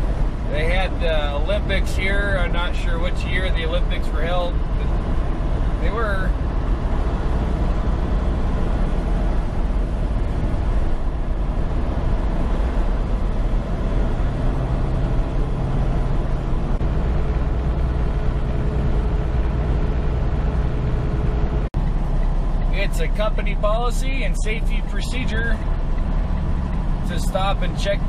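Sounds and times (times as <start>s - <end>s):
diesel truck engine running: 0.0s - 28.0s
road and wind noise: 0.0s - 28.0s.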